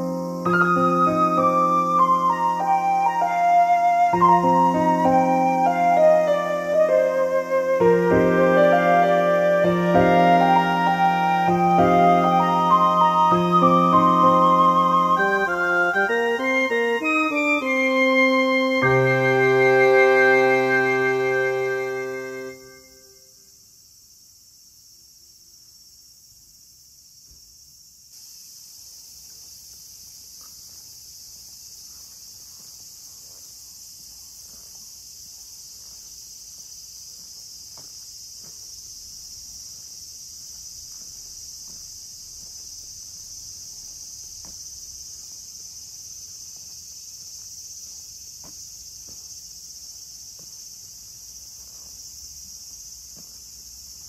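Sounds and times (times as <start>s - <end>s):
cicadas singing: 0.0s - 54.0s.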